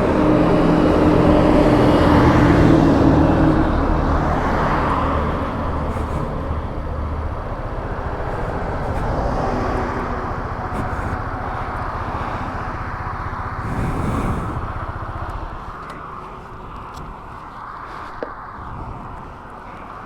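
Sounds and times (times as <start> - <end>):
motorcycle engine running: 0.0 - 18.4
wind noise on microphone: 0.0 - 20.0.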